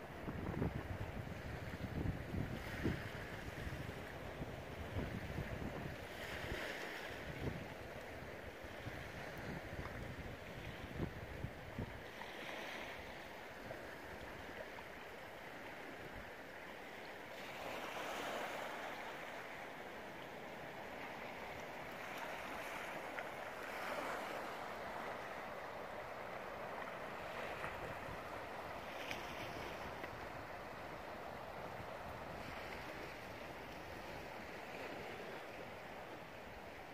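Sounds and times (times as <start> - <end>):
small waves washing on shore: 0.0 - 36.9.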